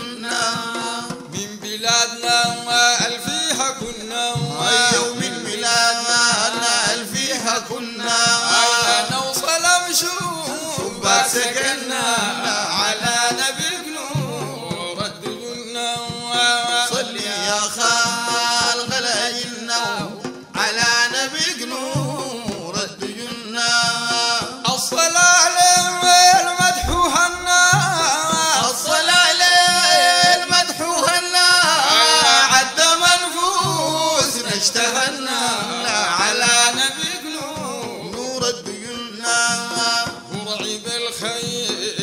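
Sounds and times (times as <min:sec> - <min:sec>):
devotional song with musical backing: 0:00.0 - 0:42.0.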